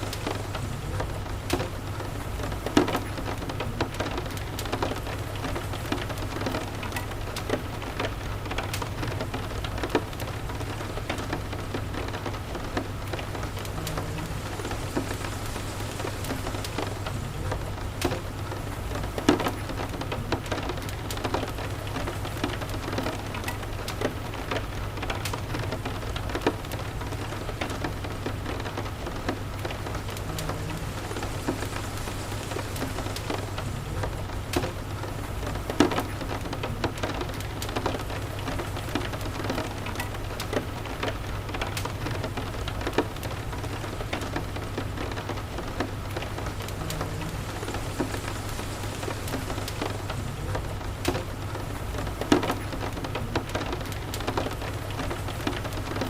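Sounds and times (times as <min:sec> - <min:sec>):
rain falling: 0:00.0 - 0:56.0
raindrops ticking: 0:00.0 - 0:56.0.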